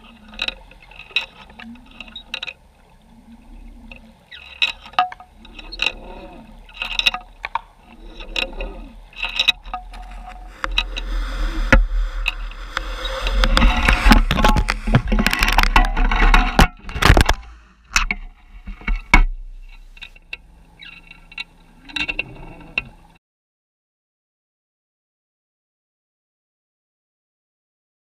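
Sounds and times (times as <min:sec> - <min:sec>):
low pulsing hum: 0:00.0 - 0:23.2
rushing rumbling water: 0:00.0 - 0:23.2
underwater clicks and knocks: 0:00.0 - 0:23.2.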